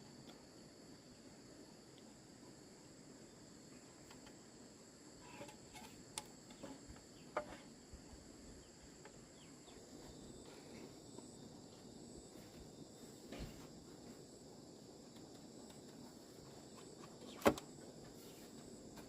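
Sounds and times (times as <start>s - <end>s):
faint insect chirring: 0.0s - 19.0s.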